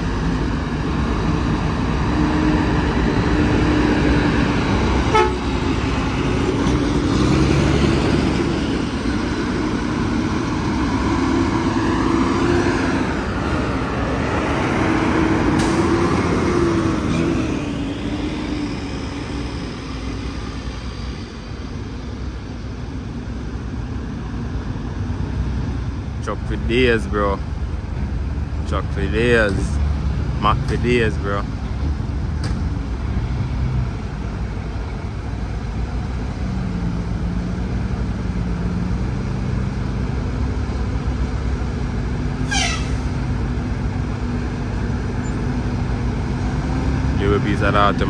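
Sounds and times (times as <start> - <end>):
diesel truck engine drone: 0.0 - 48.0
road rumble: 0.0 - 48.0.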